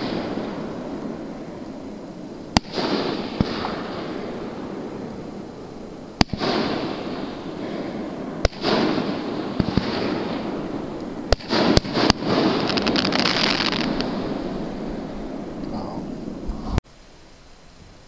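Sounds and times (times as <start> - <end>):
fast firework crackling: 0.0 - 16.5
fireworks bangs with echoing boom: 0.0 - 16.6.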